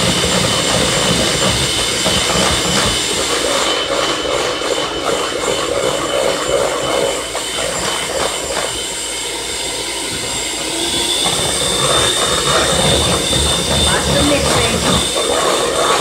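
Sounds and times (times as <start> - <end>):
electric hand mixer running: 0.0 - 16.0
high mixer whine: 0.0 - 16.0.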